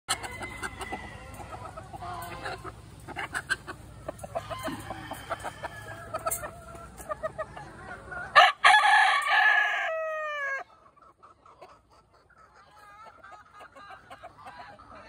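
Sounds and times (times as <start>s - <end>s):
chickens clucking: 0.1s - 15.0s.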